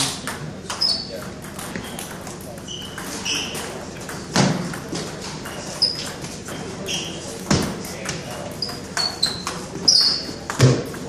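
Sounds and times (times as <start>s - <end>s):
sneakers squeaking on wooden floor: 0.7s - 10.9s.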